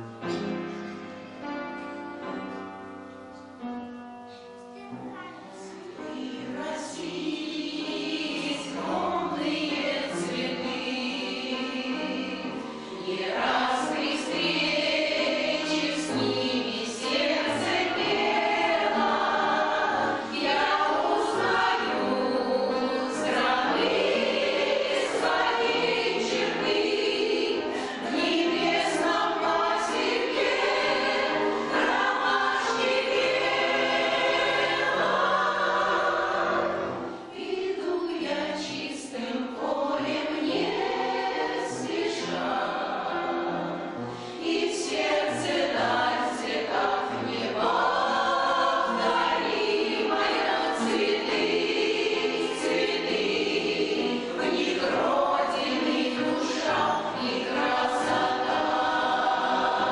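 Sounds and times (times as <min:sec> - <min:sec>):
piano accompaniment: 0:00.0 - 0:59.9
choir singing: 0:05.5 - 0:59.9.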